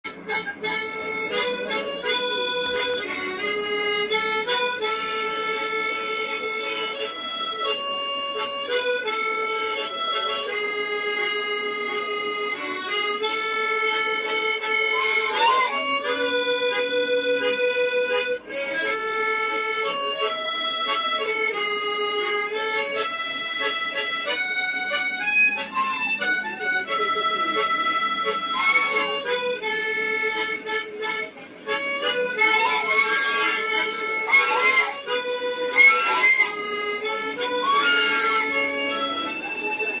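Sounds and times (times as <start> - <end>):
reedy instrumental melody: 0.0 - 40.0.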